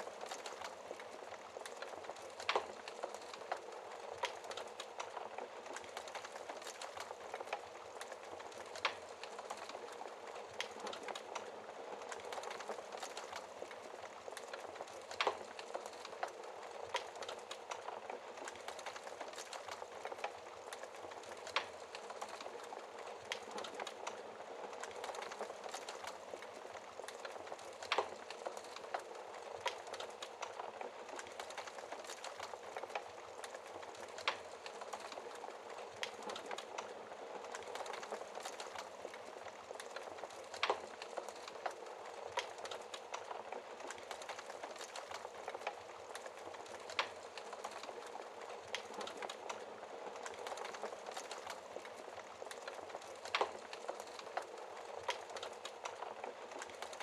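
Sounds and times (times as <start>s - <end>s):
fireplace wood fire crackling: 0.0s - 57.0s.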